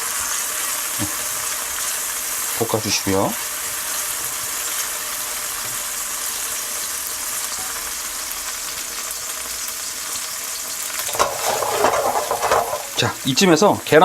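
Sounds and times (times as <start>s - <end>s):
green onions sizzling in oil: 0.0s - 14.0s.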